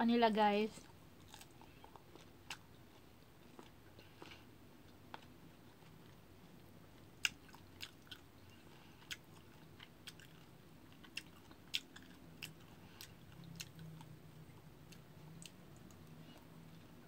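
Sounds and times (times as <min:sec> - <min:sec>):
person chewing crunchy fruit: 0:00.8 - 0:17.0.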